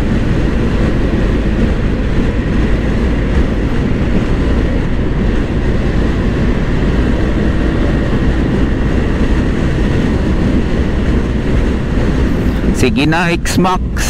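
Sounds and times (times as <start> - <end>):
scooter engine and road noise: 0.0 - 14.0
wind rush: 0.0 - 14.0.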